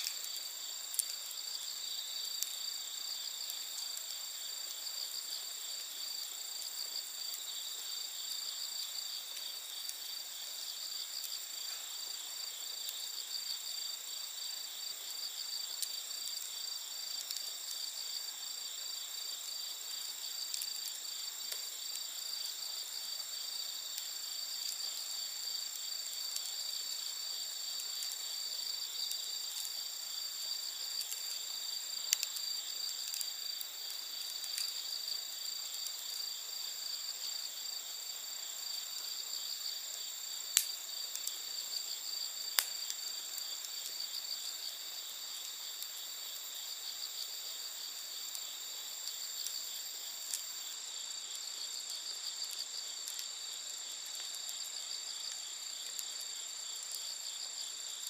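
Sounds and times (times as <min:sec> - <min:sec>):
insects trilling: 0:00.0 - 0:58.0
wood fire crackling pops: 0:00.0 - 0:58.0.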